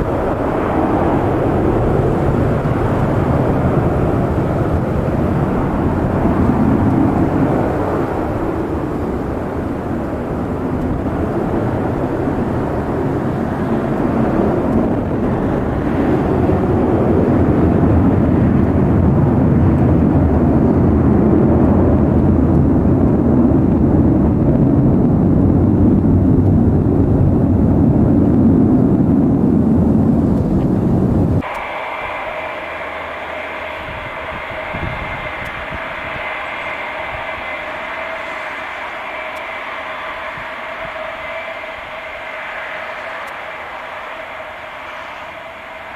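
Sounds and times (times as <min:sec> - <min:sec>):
loud crackling jet roar: 0:00.0 - 0:45.9
whining jet engine: 0:00.0 - 0:45.9.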